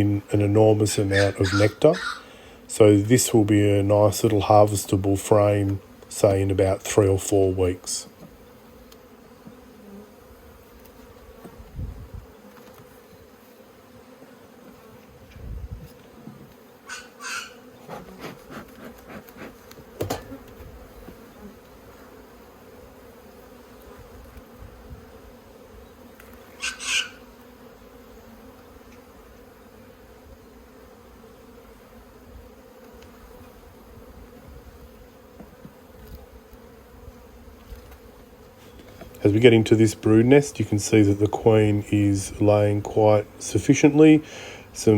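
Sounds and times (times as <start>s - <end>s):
honeybees humming: 0.0s - 44.9s.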